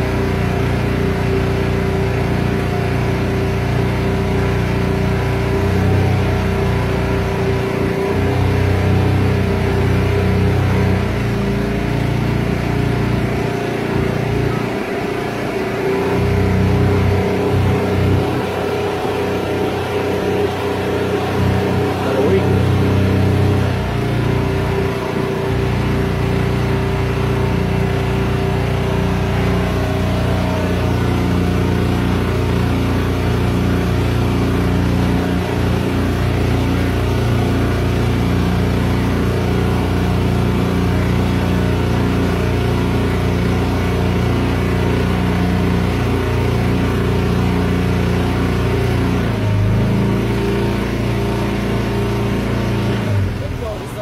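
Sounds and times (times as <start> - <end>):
motorboat engine running: 0.0 - 54.0.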